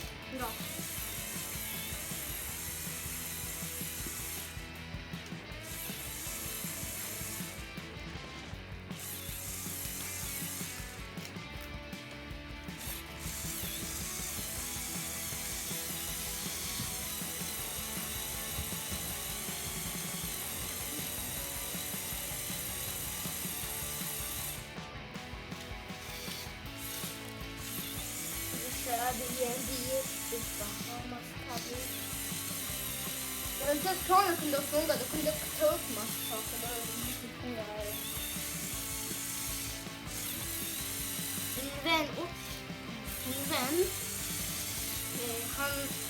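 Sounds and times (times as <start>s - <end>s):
toy motor running: 0.0s - 46.0s.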